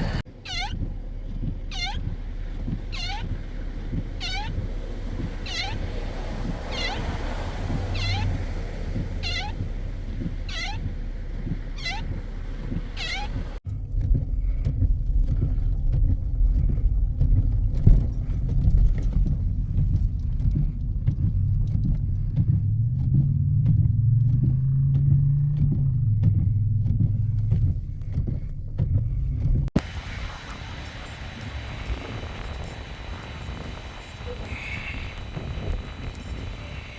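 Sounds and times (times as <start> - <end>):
vehicle engine rumbling: 0.0 - 36.9.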